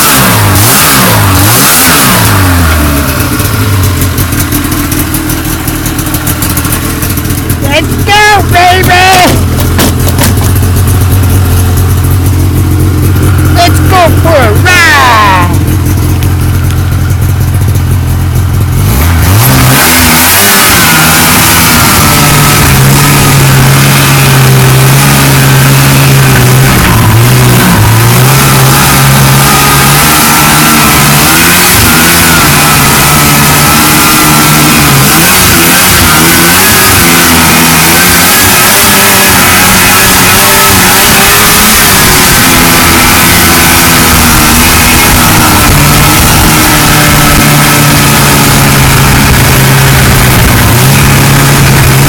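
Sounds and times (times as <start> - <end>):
snowmobile engine idling and revving: 0.0 - 52.0.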